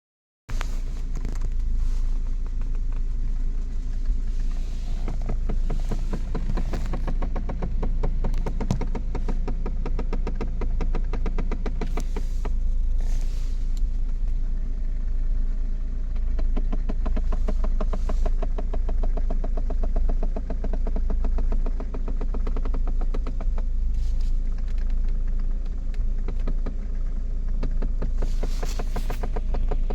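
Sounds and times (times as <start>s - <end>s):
rapid clicking in dashboard: 0.5s - 14.8s, 16.1s - 29.9s
car engine idling: 0.5s - 29.9s.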